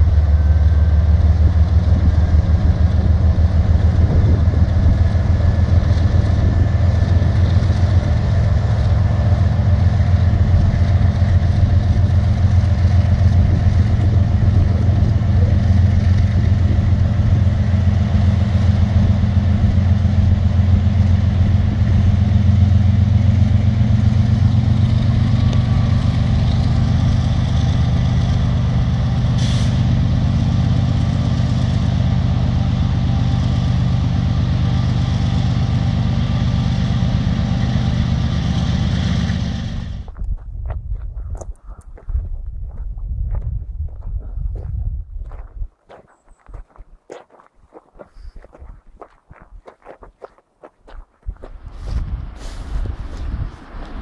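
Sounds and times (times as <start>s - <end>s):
locomotive engines droning: 0.0s - 40.3s, 50.8s - 54.0s.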